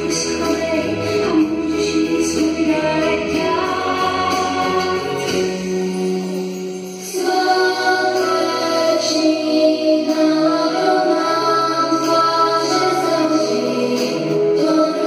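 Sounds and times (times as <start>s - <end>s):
voices singing with instruments: 0.0s - 6.0s, 7.0s - 15.0s.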